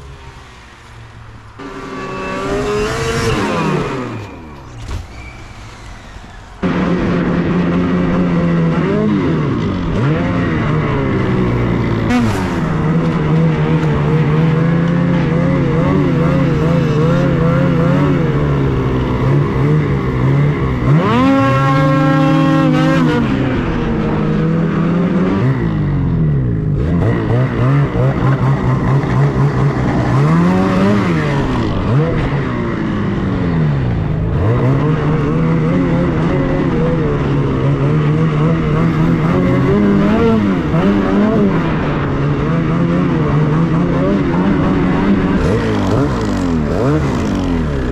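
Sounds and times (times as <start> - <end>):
snowmobile engine revving: 0.0 - 5.0, 6.6 - 47.9.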